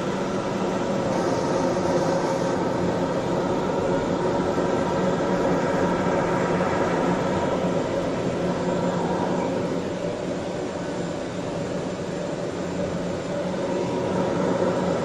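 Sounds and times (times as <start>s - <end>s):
turboprop engine drone: 0.0s - 15.0s.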